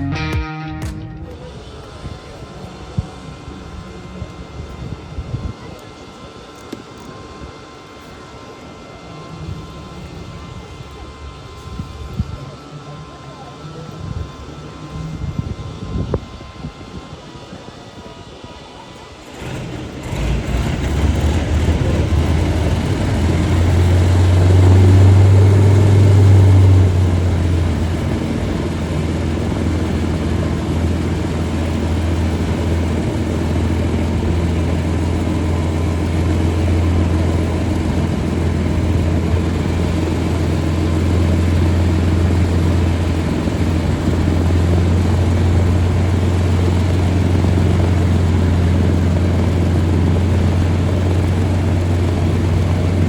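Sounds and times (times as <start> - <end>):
aircraft piston engines droning: 1.3 - 53.0.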